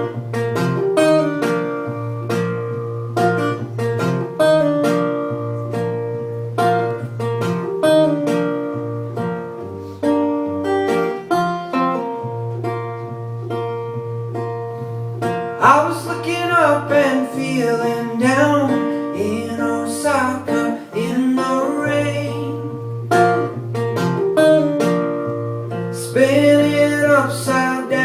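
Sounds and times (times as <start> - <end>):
acoustic guitar picking: 0.0 - 28.0.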